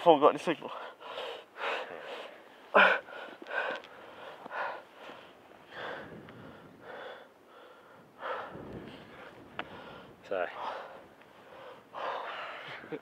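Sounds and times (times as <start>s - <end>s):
person breathing heavily in gasps: 0.7s - 13.0s.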